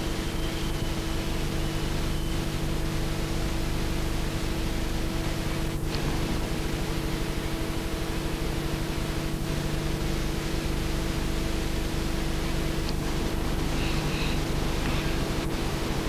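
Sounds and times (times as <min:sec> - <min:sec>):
constant low hum: 0:00.0 - 0:16.0
steady hiss: 0:00.0 - 0:16.0.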